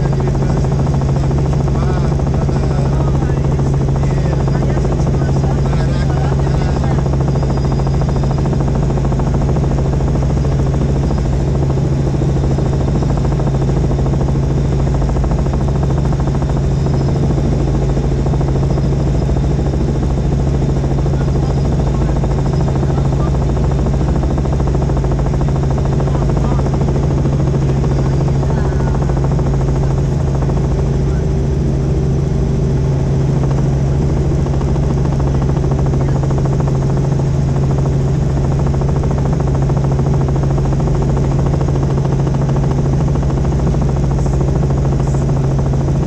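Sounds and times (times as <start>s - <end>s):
helicopter rotor chopping: 0.0s - 46.0s.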